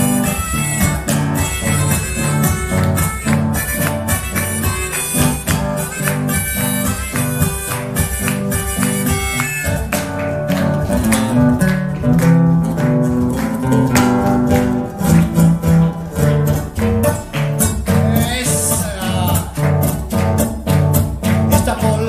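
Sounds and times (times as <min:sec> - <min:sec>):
acoustic guitars playing polka: 0:00.0 - 0:22.0
hand percussion: 0:00.0 - 0:22.0.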